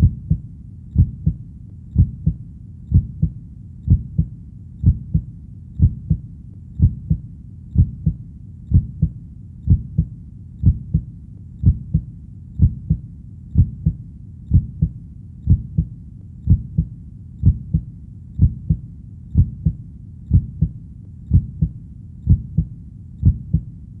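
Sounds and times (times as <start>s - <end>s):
heartbeat: 0.0s - 23.8s
low steady rumble: 0.0s - 24.0s.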